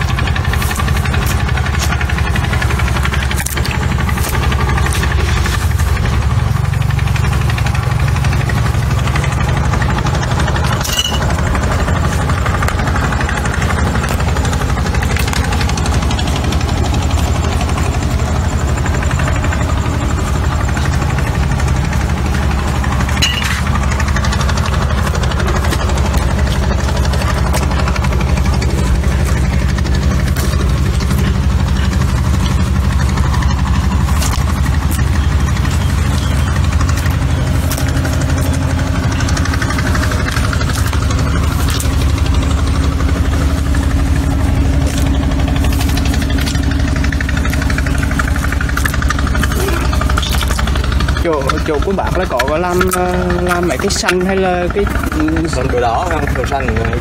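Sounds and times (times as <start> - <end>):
motor engine running: 0.0 - 57.0.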